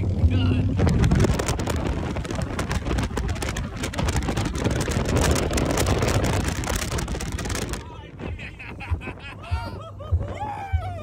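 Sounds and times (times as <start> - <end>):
vehicle engine rumble: 0.0 - 11.0
wind noise on microphone: 0.0 - 11.0.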